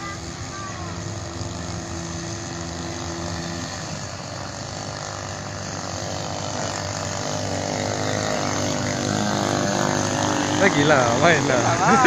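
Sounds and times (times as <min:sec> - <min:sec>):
model boat engine buzzing: 0:00.0 - 0:12.0.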